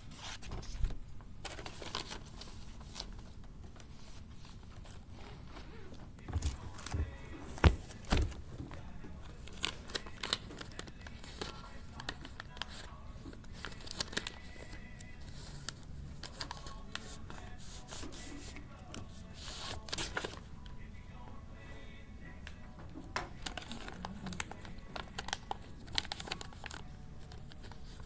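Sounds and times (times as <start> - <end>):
paper rustling and crinkling: 0.1 - 20.5, 23.3 - 28.0.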